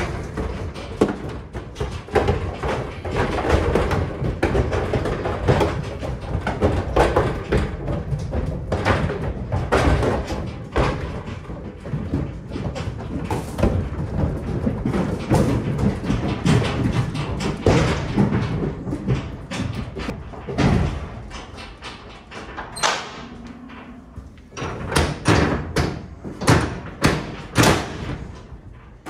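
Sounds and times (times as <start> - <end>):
knocks against trailer walls: 0.0 - 23.4, 24.6 - 29.0
hooves on metal floor: 0.0 - 29.0.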